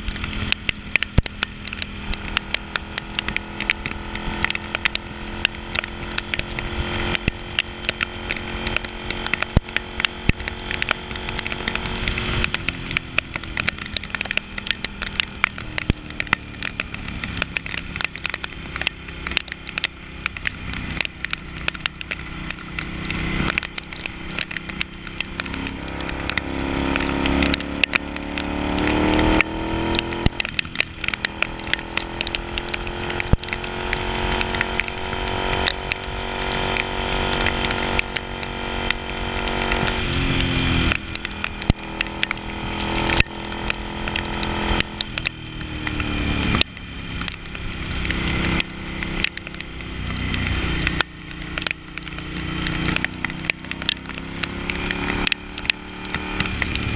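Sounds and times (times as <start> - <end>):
gear change: 0.0 - 56.9
motorcycle engine cruising: 0.0 - 56.9
rain and wind on camera: 0.0 - 56.9.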